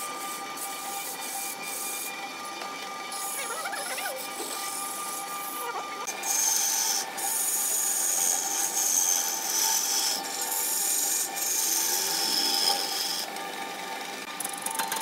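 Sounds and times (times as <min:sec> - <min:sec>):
chisel scraping spinning wood: 0:00.0 - 0:15.0.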